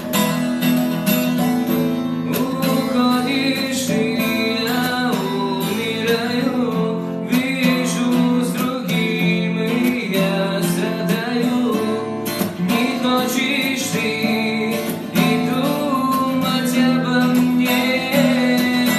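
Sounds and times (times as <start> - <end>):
acoustic guitar melody: 0.0 - 18.9
strummed guitar chords: 0.0 - 18.9.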